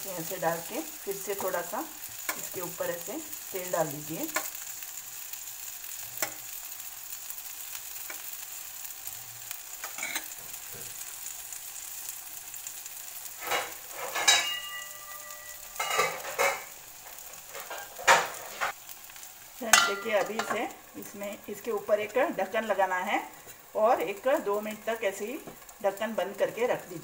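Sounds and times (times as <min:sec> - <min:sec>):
chicken sizzling on grill pan: 0:00.0 - 0:27.0.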